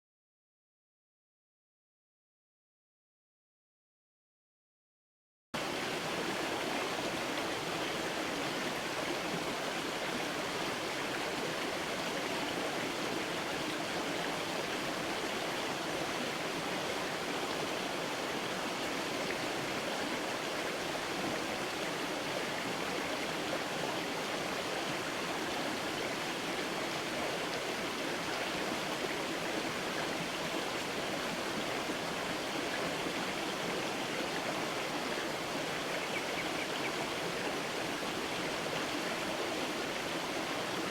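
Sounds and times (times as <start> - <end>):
creek flowing: 5.6 - 40.9.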